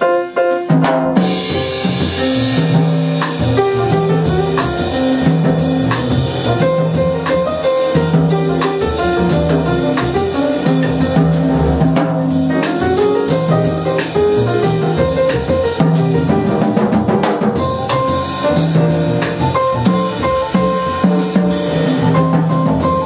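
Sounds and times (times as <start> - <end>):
drum kit with cymbals: 0.0 - 23.0
grand piano: 0.0 - 23.0
double bass: 1.2 - 23.0.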